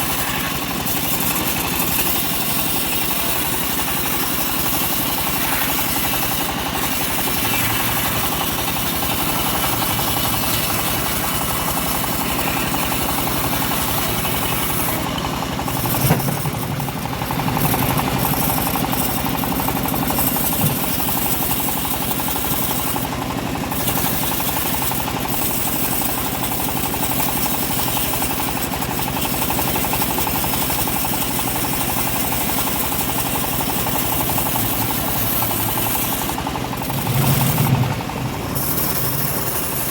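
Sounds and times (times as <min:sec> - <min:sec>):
bandsaw sawing a log: 0:00.0 - 0:39.9.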